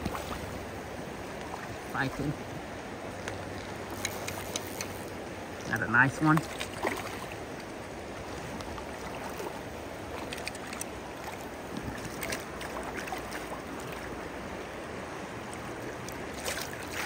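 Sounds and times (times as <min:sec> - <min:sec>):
river water running over riffle: 0:00.0 - 0:17.0.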